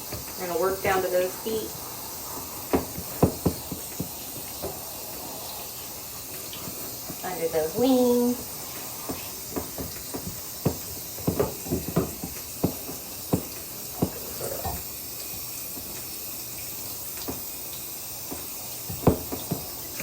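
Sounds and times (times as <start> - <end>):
running water rinsing feathers: 0.0 - 20.0
water splashing and dripping: 0.0 - 20.0.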